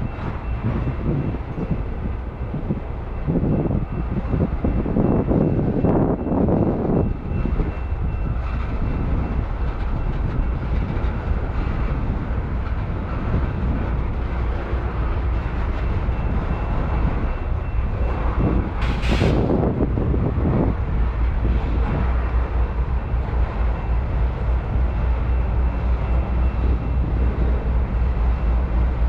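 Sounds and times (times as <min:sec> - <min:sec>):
freight train wheels rumbling on rails: 0:00.0 - 0:29.0.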